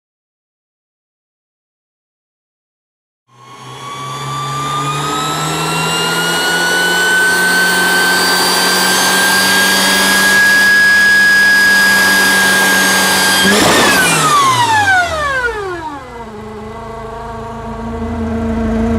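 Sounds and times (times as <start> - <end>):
car engine whining under acceleration: 3.3 - 18.9.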